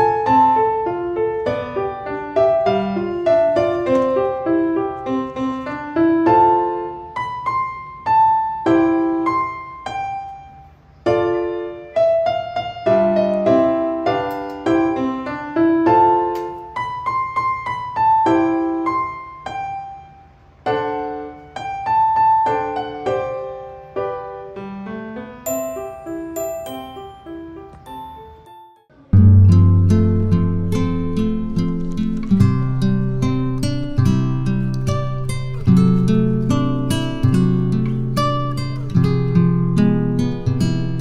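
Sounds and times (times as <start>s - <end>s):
gentle piano melody: 0.0s - 41.0s.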